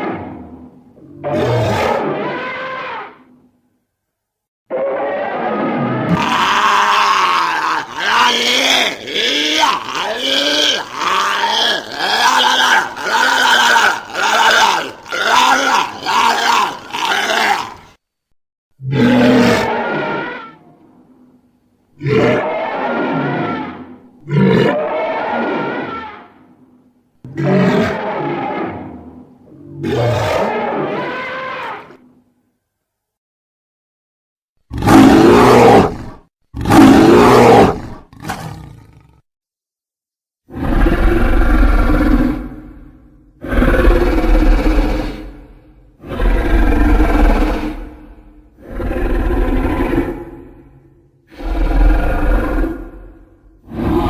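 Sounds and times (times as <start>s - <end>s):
growly creature calls: 0.0s - 3.3s, 4.7s - 18.0s, 18.8s - 20.7s, 22.0s - 26.6s, 27.2s - 32.1s, 34.7s - 39.2s, 40.5s - 54.0s.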